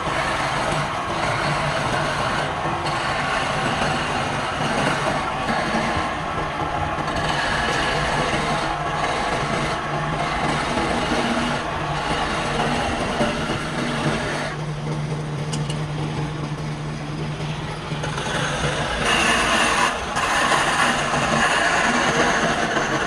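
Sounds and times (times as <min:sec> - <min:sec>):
tool scraping spinning wood: 0:00.0 - 0:23.0
wood lathe motor hum: 0:00.0 - 0:23.0.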